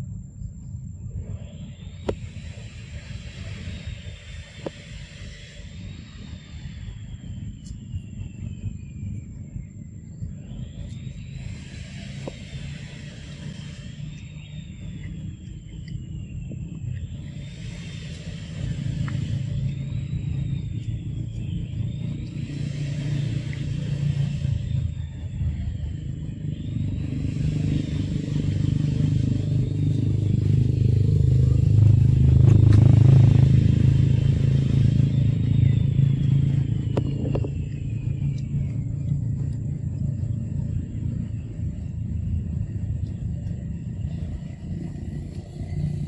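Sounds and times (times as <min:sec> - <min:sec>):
pulsing high buzzing: 0:00.0 - 0:46.0
steady low rumble: 0:00.0 - 0:46.0
thin high whine: 0:00.0 - 0:46.0.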